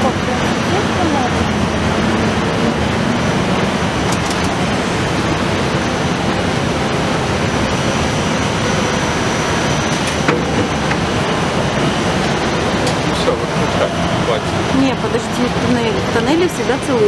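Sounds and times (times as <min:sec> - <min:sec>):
ride car rolling along track: 0:00.0 - 0:17.0.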